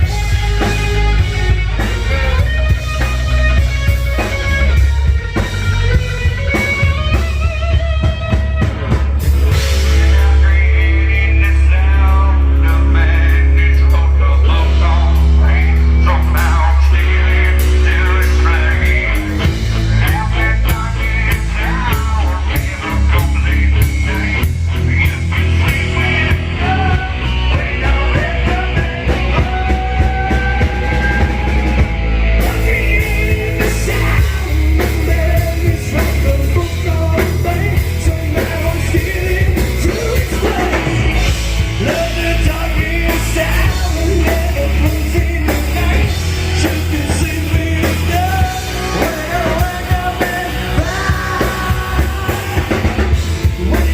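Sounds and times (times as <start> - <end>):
bass guitar: 0.0 - 53.9
drum kit: 0.0 - 53.9
electric guitars: 0.0 - 53.9
lead vocals singing: 9.4 - 53.9.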